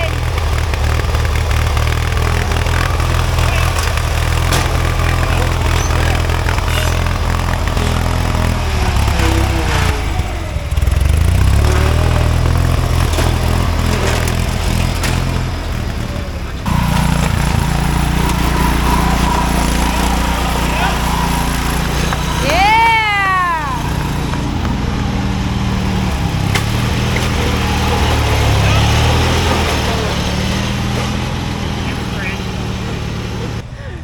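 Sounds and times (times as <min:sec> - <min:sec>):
riding lawn mower engines running: 0:00.0 - 0:34.0.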